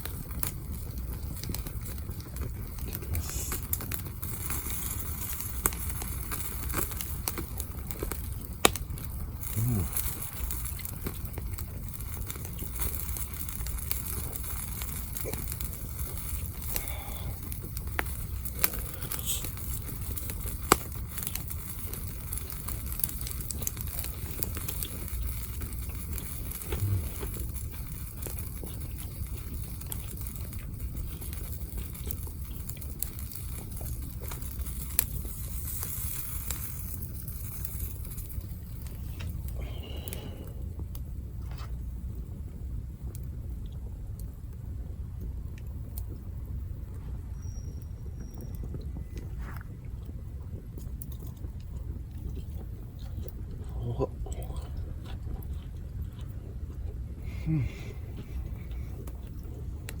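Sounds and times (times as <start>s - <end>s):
sharp pops from fire: 0.0s - 54.0s
campfire crackling: 0.0s - 60.0s.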